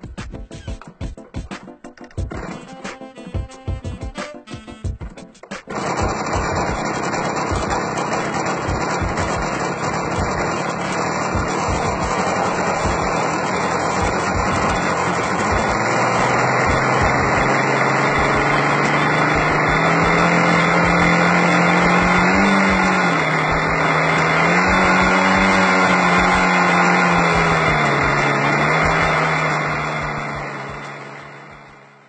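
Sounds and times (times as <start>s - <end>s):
model airplane engine running: 2.3s - 2.9s, 5.7s - 32.0s.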